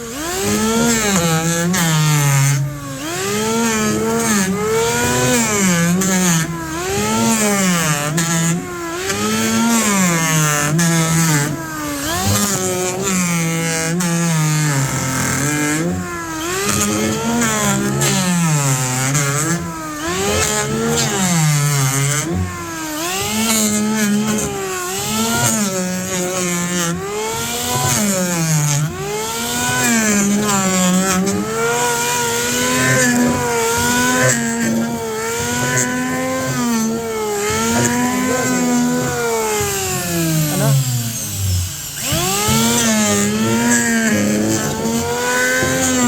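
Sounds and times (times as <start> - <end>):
electric hand planer motor: 0.0 - 46.0.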